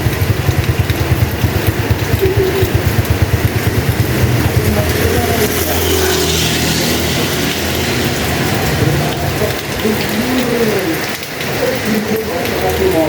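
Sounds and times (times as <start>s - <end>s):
small motorcycle engine running: 0.0s - 12.9s
heavy rain: 0.0s - 13.0s.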